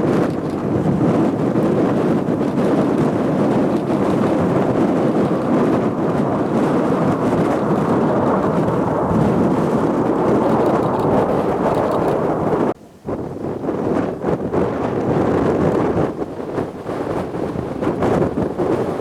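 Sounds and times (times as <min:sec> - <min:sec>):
jet aircraft roaring overhead: 0:00.0 - 0:19.0
wind buffeting microphone: 0:00.0 - 0:19.0.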